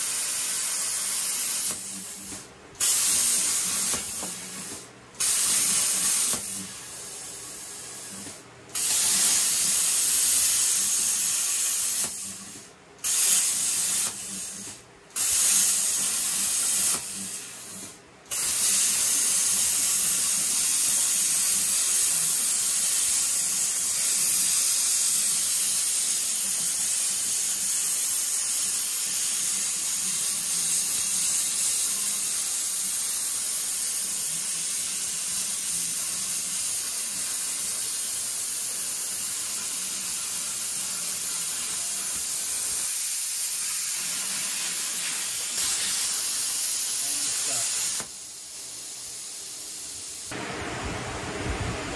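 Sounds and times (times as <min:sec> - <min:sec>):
plasma torch hissing: 0:00.0 - 0:50.4.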